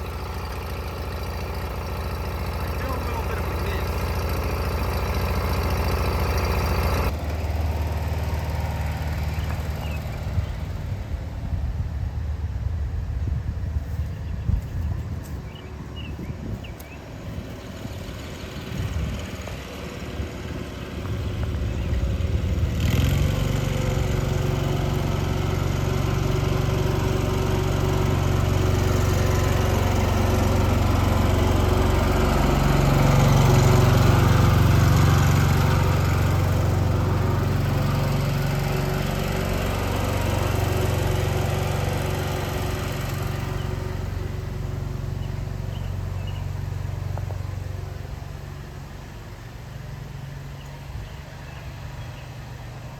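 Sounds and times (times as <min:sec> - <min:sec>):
riding mower engine running: 0:00.0 - 0:52.9.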